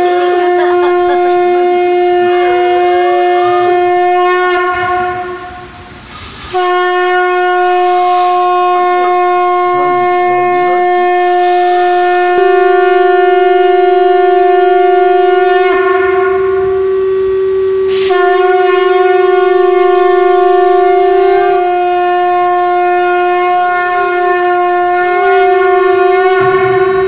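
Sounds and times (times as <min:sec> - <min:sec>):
conch shell blown: 0:00.0 - 0:05.8, 0:06.5 - 0:27.0.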